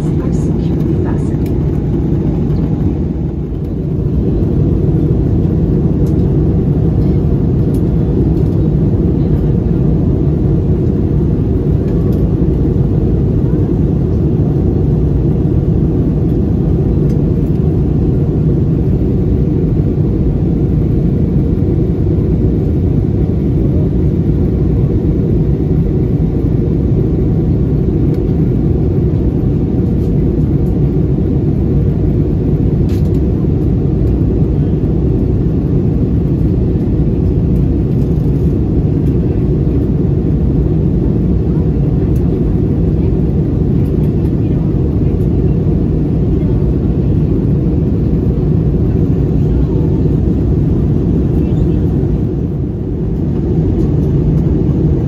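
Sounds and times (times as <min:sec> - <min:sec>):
jet airliner cabin rumble: 0:00.0 - 0:55.0.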